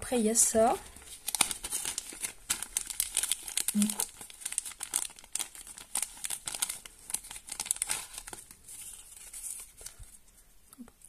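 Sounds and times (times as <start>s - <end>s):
plastic bag crinkling: 0.6s - 10.4s.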